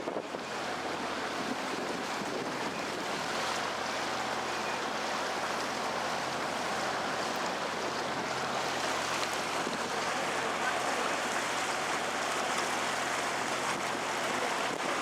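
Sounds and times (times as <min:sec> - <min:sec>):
boat motor hum: 0:00.0 - 0:15.0
water rushing: 0:00.0 - 0:15.0.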